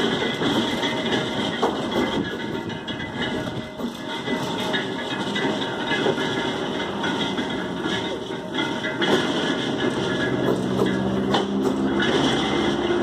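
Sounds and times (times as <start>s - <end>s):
irregular metal clatter: 0.0s - 13.0s.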